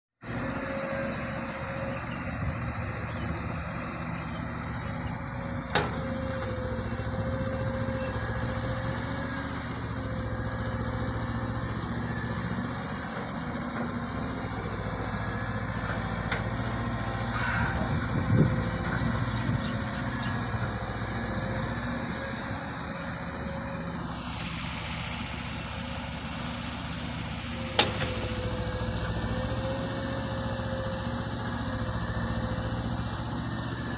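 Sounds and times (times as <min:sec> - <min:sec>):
excavator diesel engine running: 0:00.2 - 0:33.9
hydraulic whine: 0:05.3 - 0:33.9.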